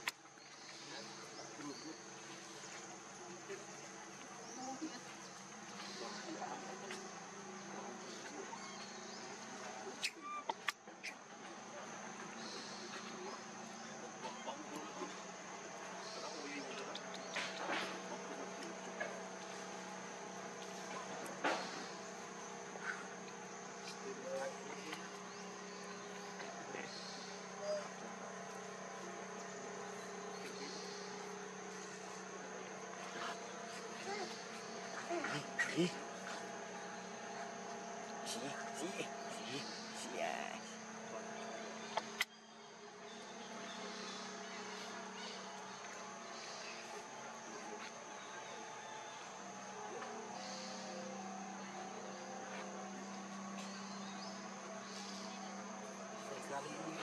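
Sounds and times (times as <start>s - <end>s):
high insect drone: 0.0s - 57.0s
low hum: 0.0s - 57.0s.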